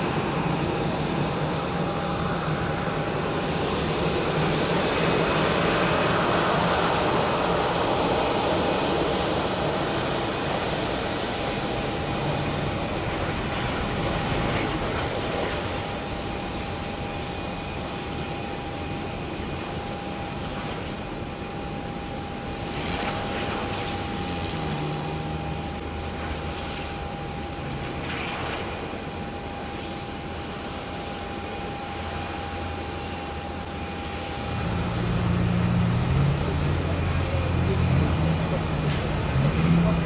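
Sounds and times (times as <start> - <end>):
jet engines with high whine: 0.0 - 40.0.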